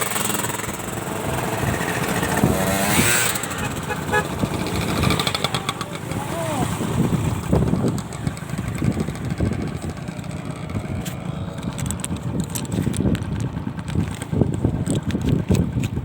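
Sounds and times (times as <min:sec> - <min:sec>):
vehicle engine running: 0:00.0 - 0:16.0
wind buffeting microphone: 0:00.2 - 0:16.0.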